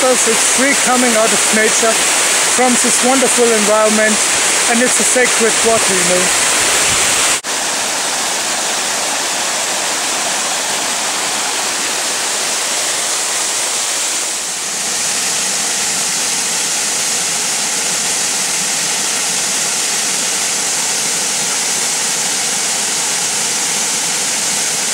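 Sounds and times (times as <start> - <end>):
waterfall rushing over rock: 0.0 - 24.9.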